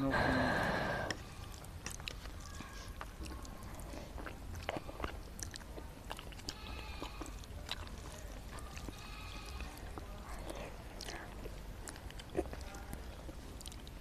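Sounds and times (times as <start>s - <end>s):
person chewing noodles: 0.0s - 14.0s.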